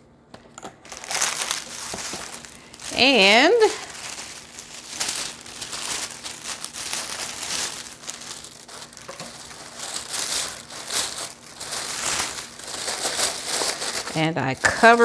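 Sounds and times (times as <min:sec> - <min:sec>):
paper being crumpled: 0:00.6 - 0:15.0.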